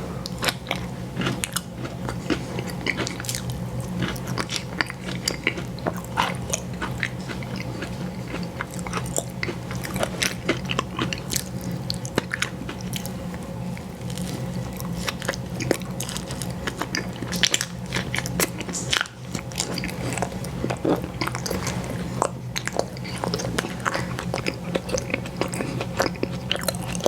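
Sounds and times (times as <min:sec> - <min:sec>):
steady low hum: 0:00.0 - 0:27.0
chewing and biting: 0:00.2 - 0:27.0.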